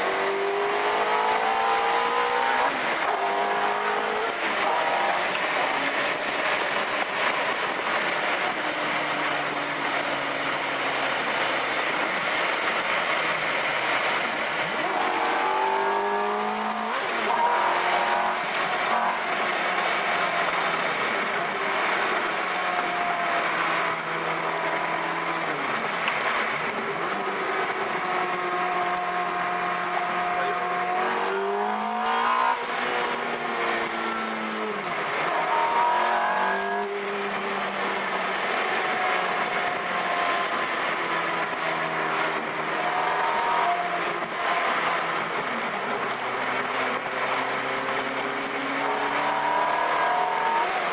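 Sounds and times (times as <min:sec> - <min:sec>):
car engine revving through gears: 0:00.0 - 0:50.9.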